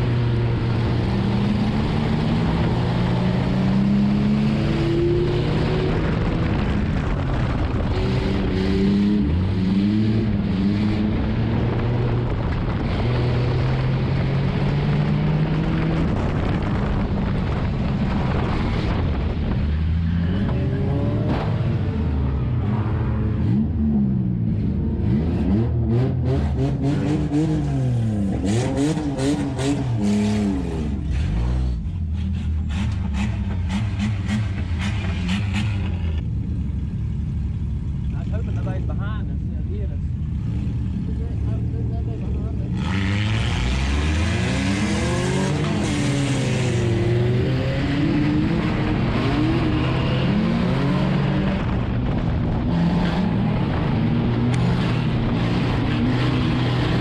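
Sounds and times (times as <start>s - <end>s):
race car engine revving: 0.0s - 36.2s, 40.3s - 57.0s.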